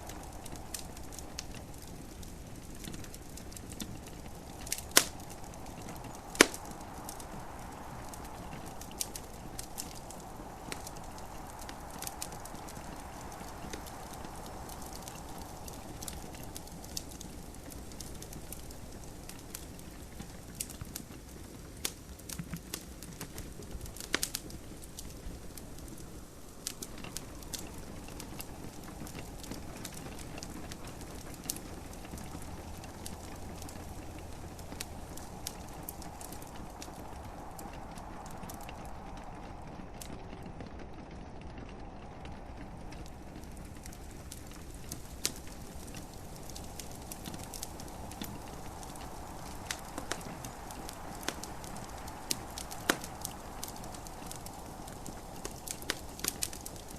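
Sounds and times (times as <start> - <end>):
gentle rain: 0.0 - 56.9
wood fire crackling and popping: 0.0 - 56.9.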